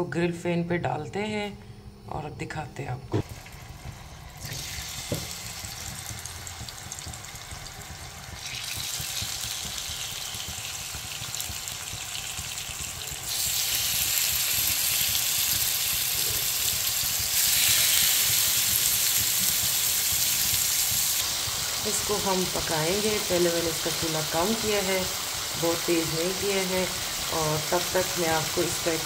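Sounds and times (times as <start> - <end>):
chicken sizzling in hot oil: 3.2 - 29.0.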